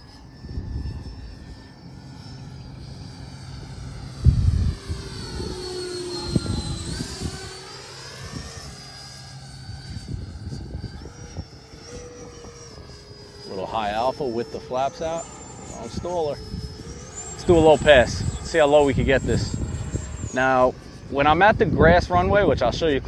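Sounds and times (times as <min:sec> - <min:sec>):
electric jet fan whine: 0:00.0 - 0:23.0
wind buffeting microphone: 0:00.3 - 0:14.1, 0:15.6 - 0:23.0.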